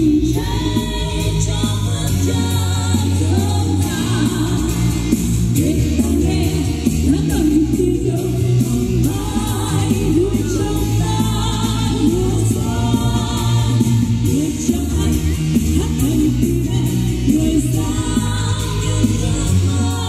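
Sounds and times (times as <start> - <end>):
choir-like backing voices: 0.0 - 20.0
musical accompaniment: 0.0 - 20.0
woman singing into a microphone: 0.0 - 20.0.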